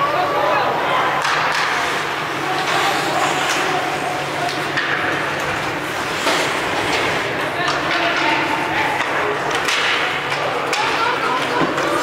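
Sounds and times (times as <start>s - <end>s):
spectators' voices: 0.0s - 12.0s
hockey sticks and puck clacking: 1.1s - 12.0s
skating on ice: 1.4s - 12.0s.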